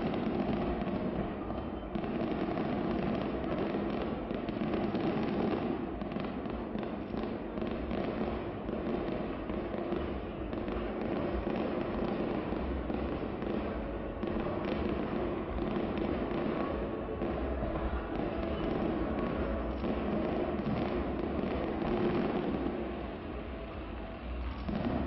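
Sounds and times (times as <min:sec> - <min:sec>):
distant fireworks popping: 0:00.0 - 0:25.0.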